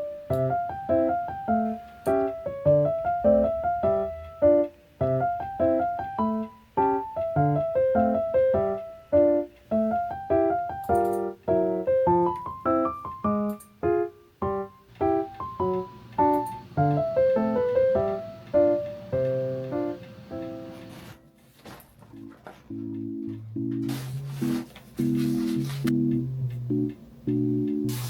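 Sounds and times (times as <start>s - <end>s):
piano melody: 0.0s - 28.0s.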